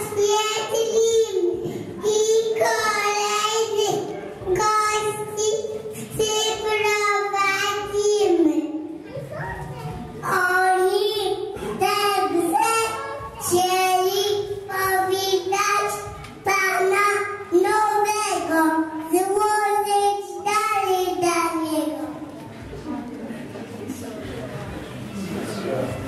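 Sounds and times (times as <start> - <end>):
child singing into a microphone: 0.0 - 22.2.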